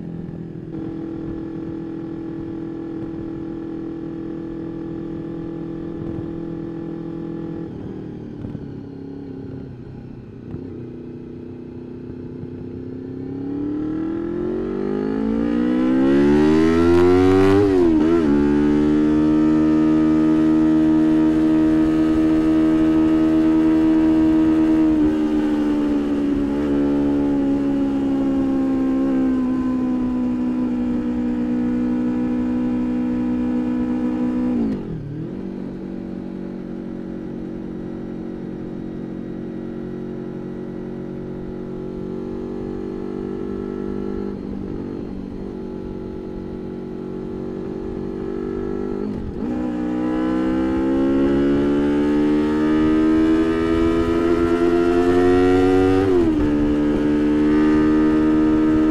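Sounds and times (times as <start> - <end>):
motorcycle engine exhaust note: 0.0 - 58.9.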